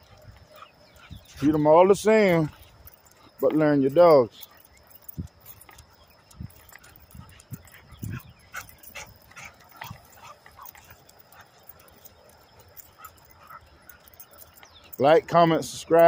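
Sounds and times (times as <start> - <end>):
dogs whimpering: 0.0 - 15.0.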